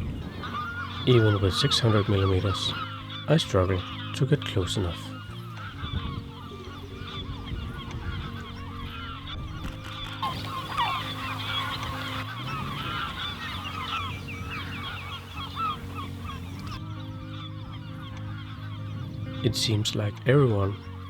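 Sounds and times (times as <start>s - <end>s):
flock of birds calling: 0.0s - 21.0s.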